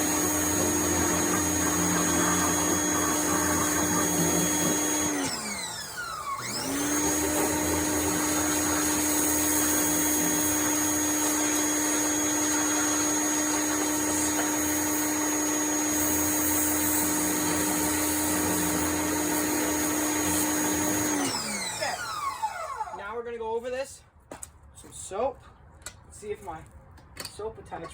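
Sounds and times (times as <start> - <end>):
pressure washer motor whine: 0.0 - 23.0.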